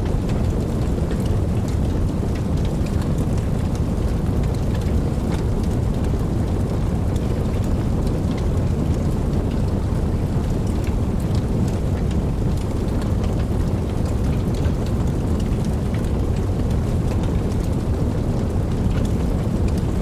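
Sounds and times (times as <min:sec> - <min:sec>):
raindrops ticking: 0:00.0 - 0:20.0
steady rainfall: 0:00.0 - 0:20.0.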